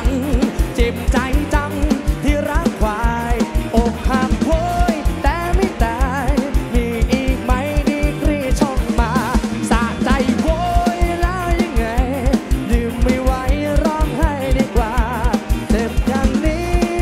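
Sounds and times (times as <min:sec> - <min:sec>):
fast kick drum beat: 0:00.0 - 0:17.0
live band playing dance music: 0:00.0 - 0:17.0
man singing with vibrato: 0:00.0 - 0:17.0.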